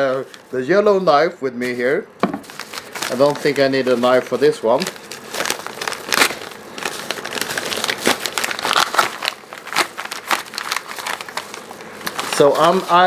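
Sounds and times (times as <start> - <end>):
paper crinkling: 0.0 - 0.8, 1.6 - 13.0
envelope tearing: 2.4 - 13.0.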